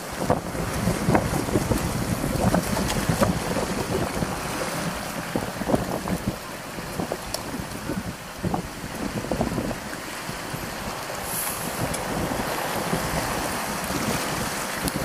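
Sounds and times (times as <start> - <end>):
feet wading through shallow water: 0.0 - 15.0
wind buffeting microphone: 0.0 - 15.0.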